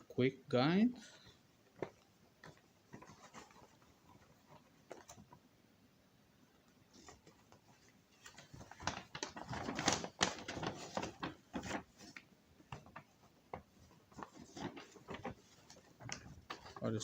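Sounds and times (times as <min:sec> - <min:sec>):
cardboard and paper rustling: 0:01.6 - 0:05.4, 0:06.9 - 0:17.0.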